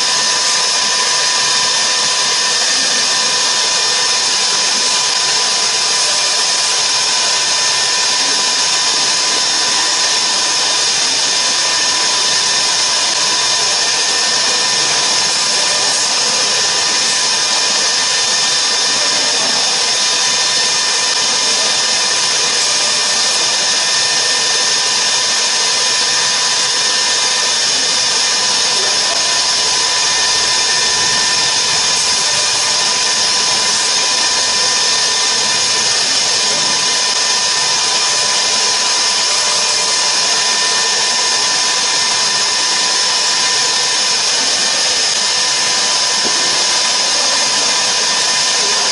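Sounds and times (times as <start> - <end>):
router spindle whine: 0.0 - 48.9.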